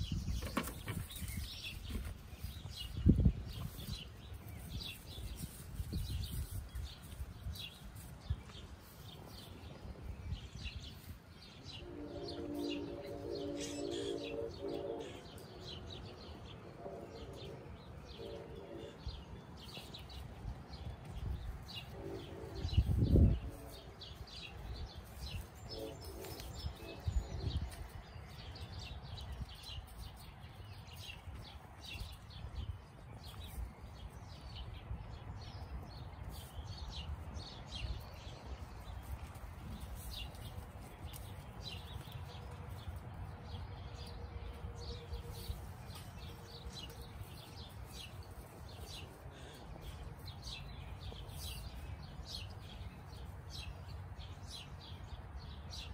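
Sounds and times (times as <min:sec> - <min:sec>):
wild birds chirping: 0:00.0 - 0:55.9.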